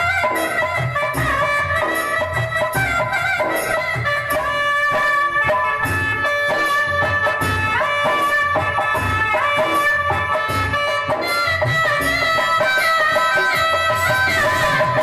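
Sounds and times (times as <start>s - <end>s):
regular drum beat: 0.0s - 15.0s.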